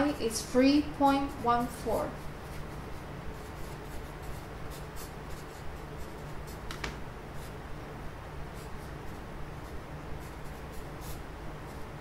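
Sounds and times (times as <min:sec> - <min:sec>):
pencil scratching on paper: 0:00.0 - 0:07.6, 0:08.5 - 0:12.0
faint low hum: 0:00.0 - 0:12.0.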